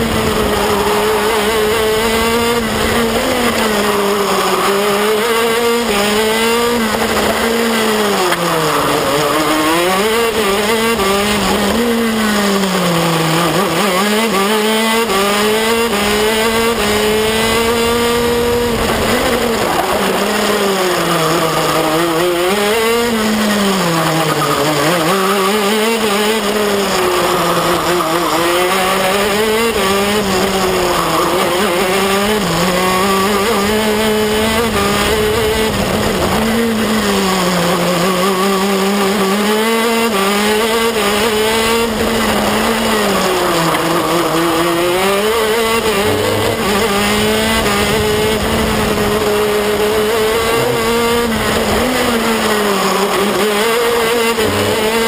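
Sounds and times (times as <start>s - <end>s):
kart two-stroke engine revving: 0.0s - 55.0s.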